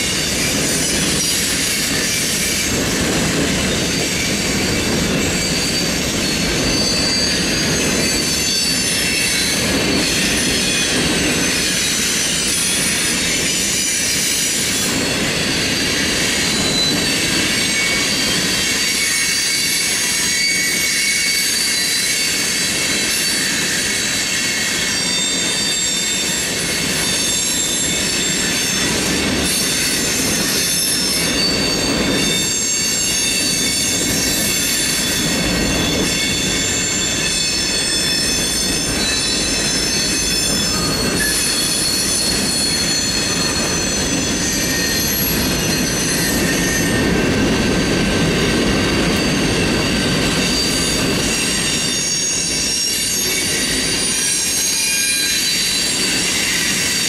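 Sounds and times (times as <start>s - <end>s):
freight train wheels rumbling: 0.0s - 57.0s
high-pitched wheel squealing: 0.1s - 47.2s, 49.1s - 57.0s.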